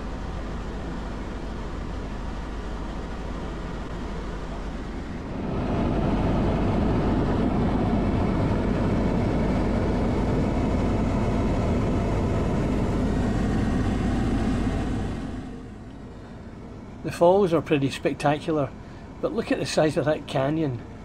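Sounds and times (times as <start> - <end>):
helicopter in flight: 0.0 - 21.0.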